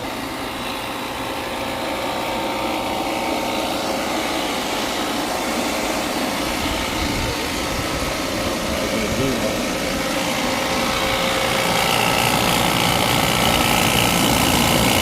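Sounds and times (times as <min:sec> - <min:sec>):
machine motor hum and whine: 0:00.0 - 0:15.0.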